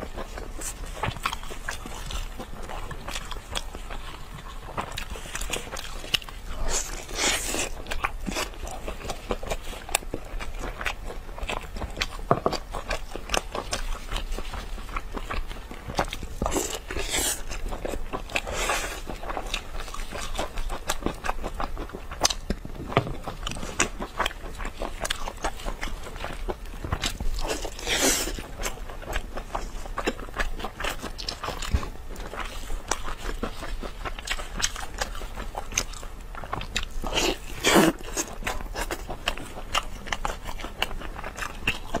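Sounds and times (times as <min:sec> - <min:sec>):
person chewing sticky meat: 0:00.0 - 0:42.0.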